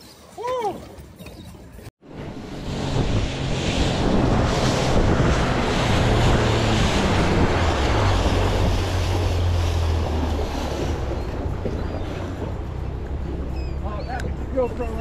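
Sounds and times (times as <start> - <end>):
wind buffeting microphone: 1.2 - 15.0
low engine hum: 1.9 - 15.0
water rushing along hull: 2.0 - 15.0.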